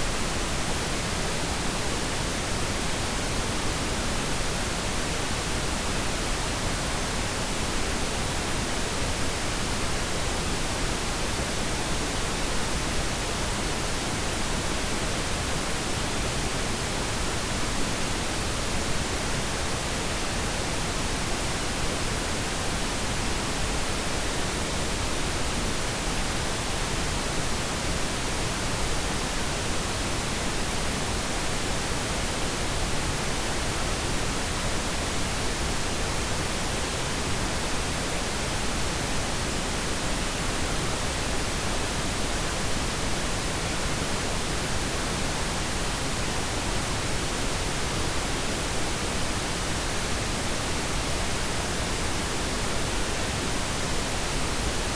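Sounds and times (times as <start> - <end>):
pink noise hiss: 0.0 - 54.9.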